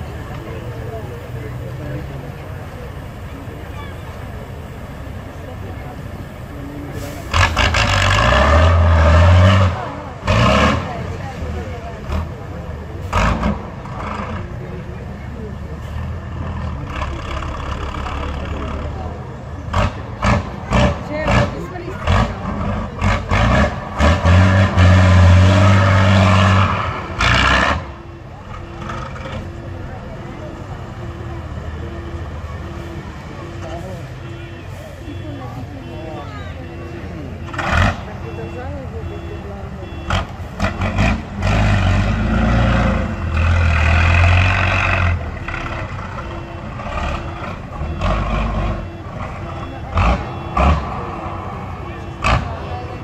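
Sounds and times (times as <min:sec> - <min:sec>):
diesel engine revving: 0:00.0 - 0:53.0.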